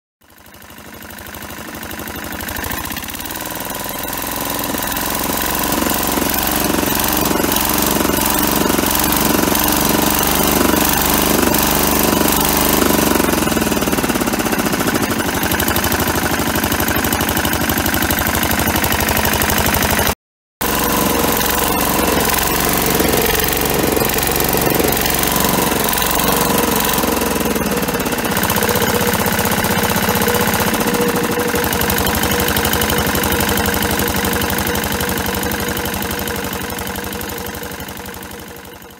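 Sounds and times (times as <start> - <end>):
diesel engine revving and idling: 0.4 - 38.9.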